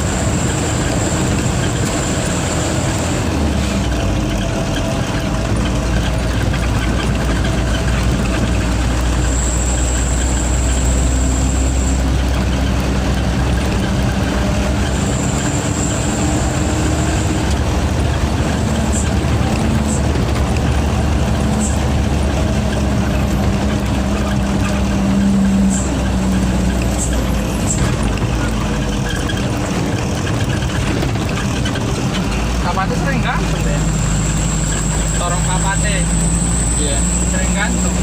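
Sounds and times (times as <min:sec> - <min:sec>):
diesel truck engine rumbling: 0:00.0 - 0:38.0.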